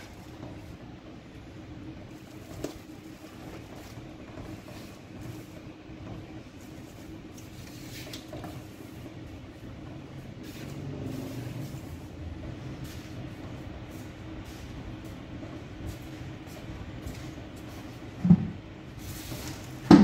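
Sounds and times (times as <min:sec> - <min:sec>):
low rumbling hum: 0:00.0 - 0:19.9.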